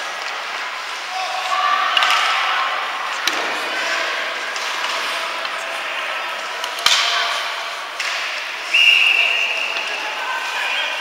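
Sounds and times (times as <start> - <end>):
echoing hubbub of voices and play: 0.0 - 11.0.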